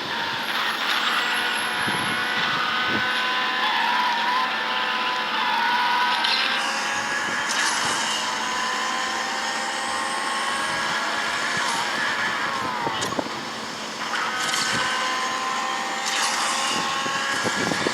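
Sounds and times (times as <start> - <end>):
motor whining and hissing: 0.0 - 17.9.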